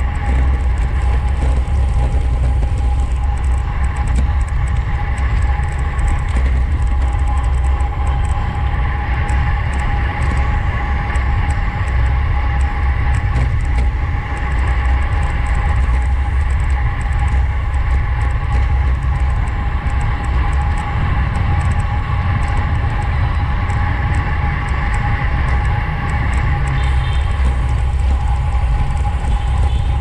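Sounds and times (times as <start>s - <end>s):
bicycle tyres and drivetrain hum: 0.0s - 30.0s
wind rushing over microphone: 0.0s - 30.0s.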